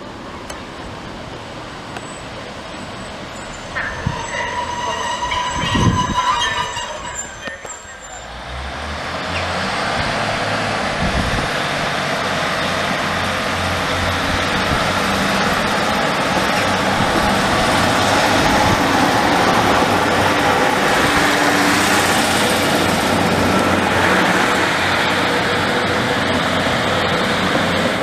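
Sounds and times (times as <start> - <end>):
diesel train engines under power: 0.0 - 28.0.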